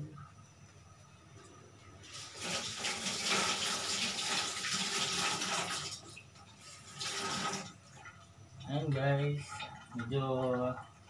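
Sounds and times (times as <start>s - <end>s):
water running from a tap: 2.0s - 11.0s.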